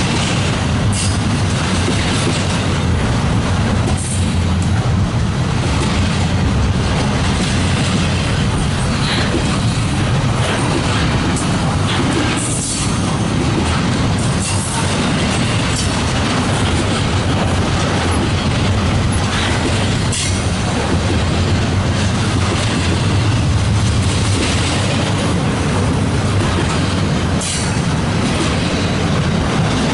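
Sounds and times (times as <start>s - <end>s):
freight train wheels rumbling on rail: 0.0s - 29.9s.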